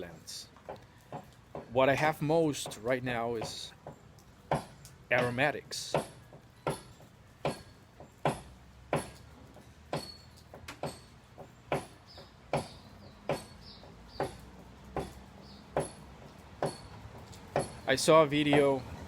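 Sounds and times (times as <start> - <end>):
hammering blows: 0.6 - 19.0.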